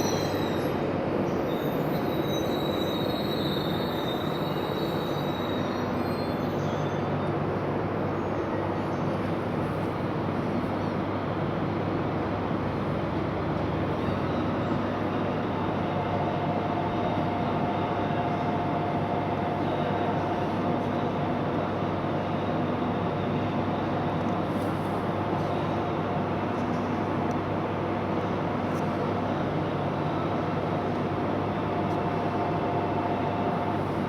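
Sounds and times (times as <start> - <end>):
train rumble and hum: 0.0 - 34.0.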